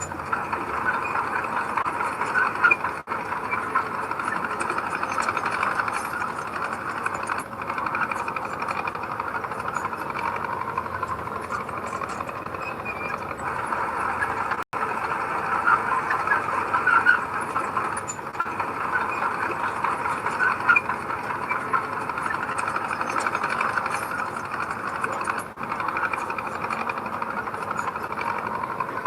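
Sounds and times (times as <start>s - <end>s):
squeaks and rattles: 0.0s - 14.7s, 15.6s - 29.0s
heavy machinery diesel engine: 0.0s - 29.0s.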